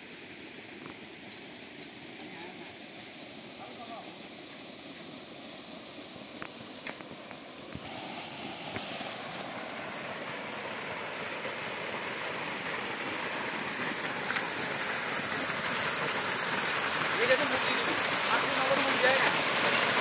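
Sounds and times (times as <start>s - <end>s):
water gushing onto ground: 0.0s - 20.0s.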